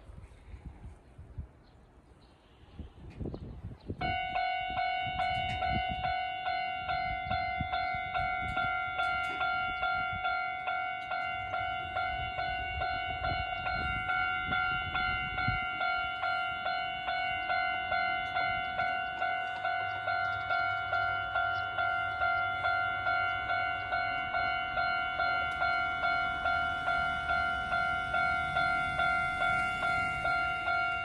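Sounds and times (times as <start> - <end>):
level crossing alarm bell: 4.0 - 31.0.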